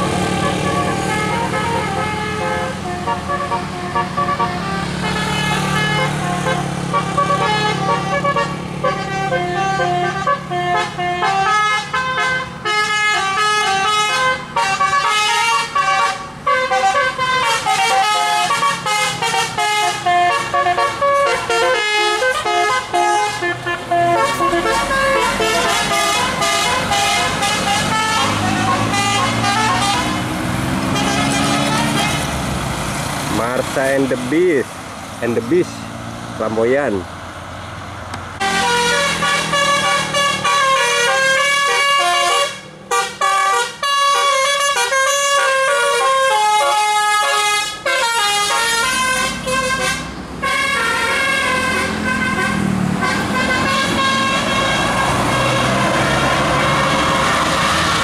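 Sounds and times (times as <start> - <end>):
musical air horn melody: 0.0 - 32.3, 38.4 - 58.0
bus engine rumble: 0.0 - 58.0.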